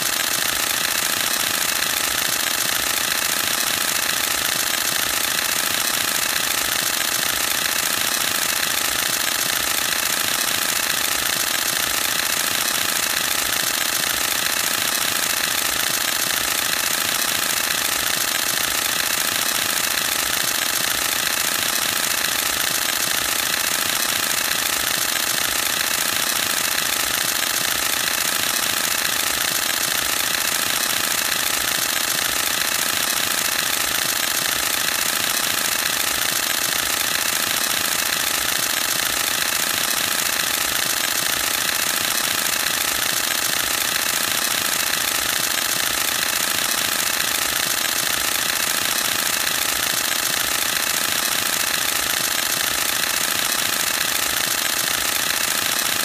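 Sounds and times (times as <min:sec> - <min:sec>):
camera shutter burst clatter: 0:00.0 - 0:56.0.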